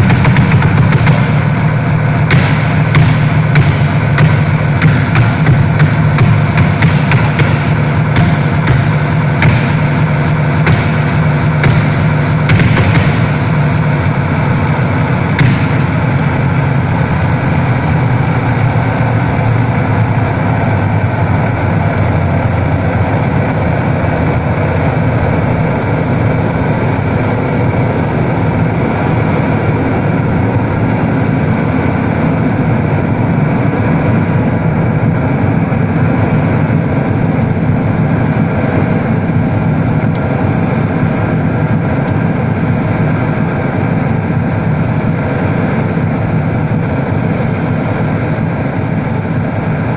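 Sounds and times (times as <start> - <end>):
electronic drone music: 0.0 - 49.9.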